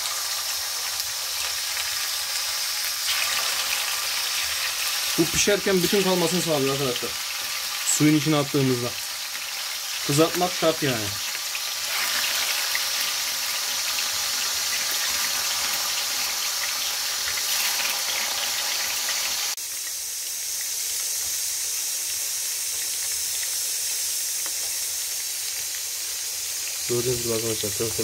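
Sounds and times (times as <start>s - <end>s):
meatballs sizzling in oil: 0.0s - 28.0s.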